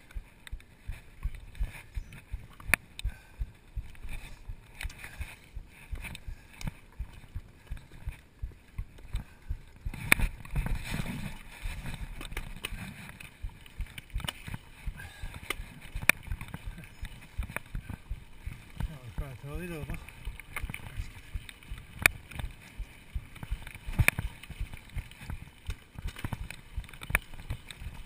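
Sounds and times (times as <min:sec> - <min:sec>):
bike tyres rumbling on dirt: 0:00.0 - 0:28.0.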